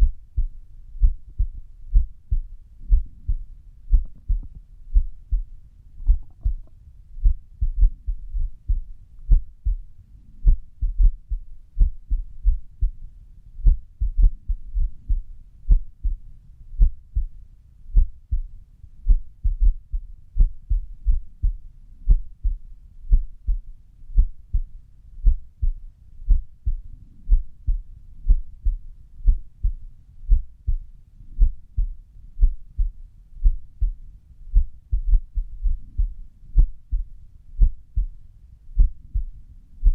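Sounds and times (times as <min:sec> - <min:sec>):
heartbeat thumps: 0:00.0 - 0:16.2, 0:16.8 - 0:39.9.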